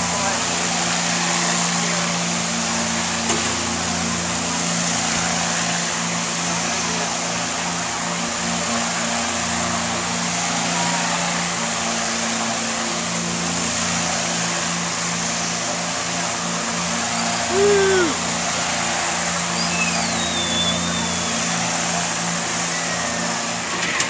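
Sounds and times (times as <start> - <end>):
ride motor humming: 0.0 - 24.0.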